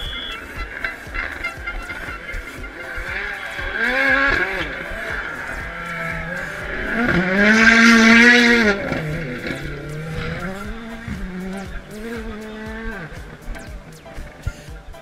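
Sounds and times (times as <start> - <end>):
rally car passing at full throttle: 0.0 - 13.5.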